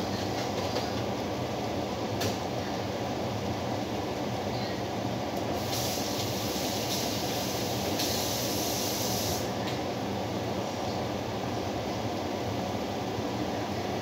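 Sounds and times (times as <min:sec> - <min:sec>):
steady background running noise: 0:00.0 - 0:14.0.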